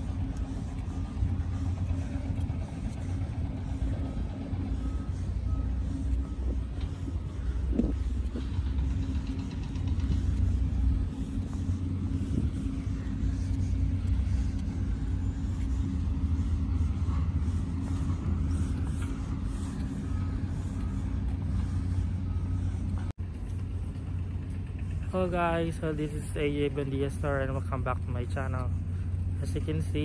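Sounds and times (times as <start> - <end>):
constant hum: 0.0 - 30.0
vehicle engines rumbling: 0.0 - 30.0.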